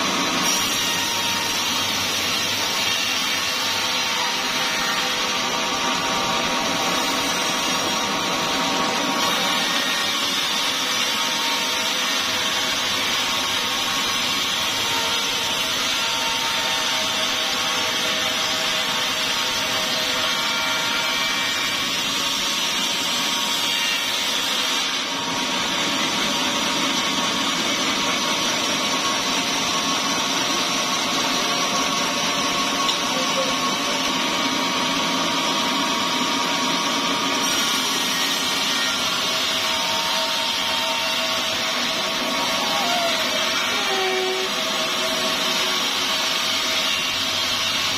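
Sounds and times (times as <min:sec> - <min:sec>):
band saw cutting log: 0:00.0 - 0:47.9.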